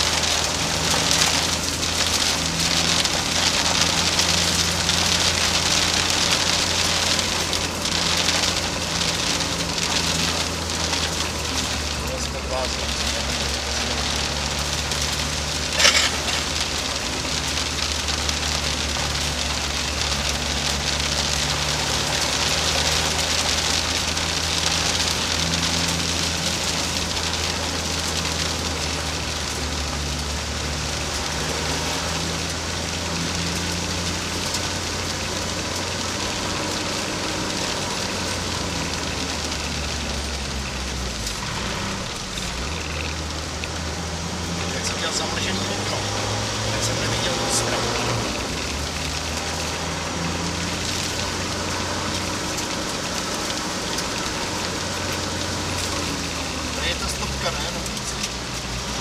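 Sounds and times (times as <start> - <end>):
diesel engine running at low revs: 0.0 - 59.0.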